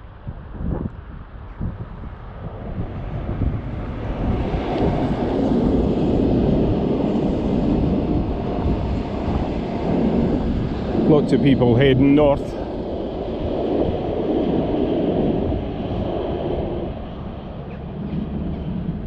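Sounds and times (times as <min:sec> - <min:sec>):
train rumbling past: 0:01.6 - 0:19.0.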